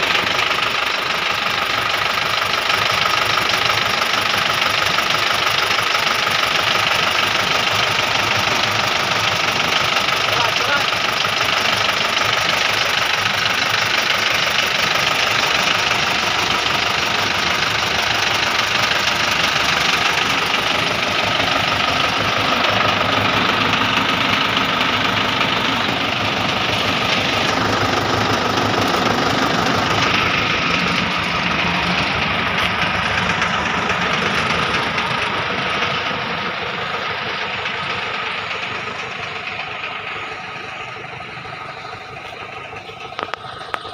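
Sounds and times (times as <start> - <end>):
van engine running: 0.0 - 43.9.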